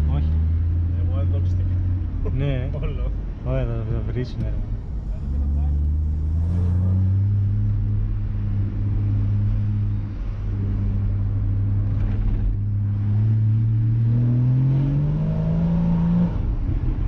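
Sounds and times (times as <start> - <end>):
car engine at low revs: 0.0 - 17.0.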